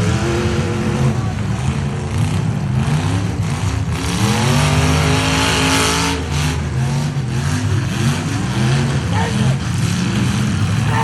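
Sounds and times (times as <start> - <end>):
truck engines revving hard: 0.0 - 11.0.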